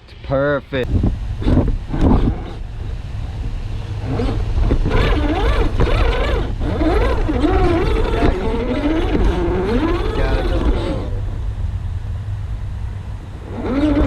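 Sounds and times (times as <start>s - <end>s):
steady low rumble: 0.0s - 14.0s
electric motor and gears whining: 0.8s - 14.0s.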